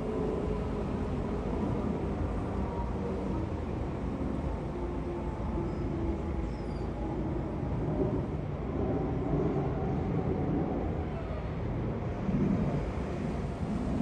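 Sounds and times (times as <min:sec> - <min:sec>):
jet engine roar overhead: 0:00.0 - 0:14.0.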